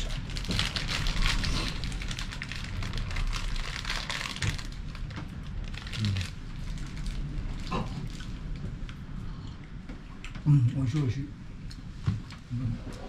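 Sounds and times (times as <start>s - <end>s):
crackling and rustling: 0.0s - 10.5s.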